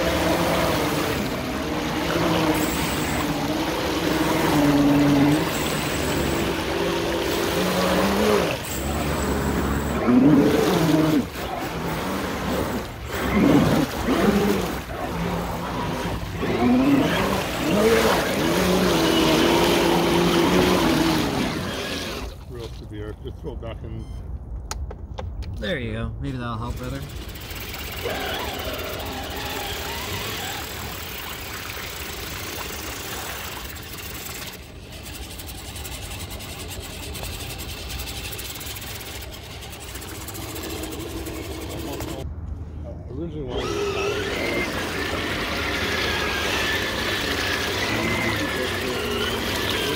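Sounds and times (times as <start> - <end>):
electric motors whining: 0.0 - 22.5, 26.7 - 42.3, 43.5 - 49.9
muddy water splashing: 0.0 - 23.0, 26.6 - 42.3, 43.5 - 49.9.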